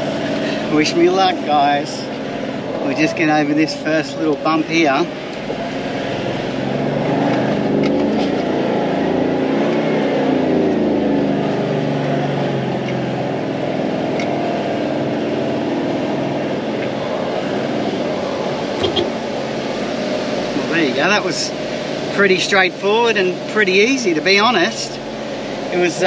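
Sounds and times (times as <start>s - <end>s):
engine working under load: 0.0s - 26.0s.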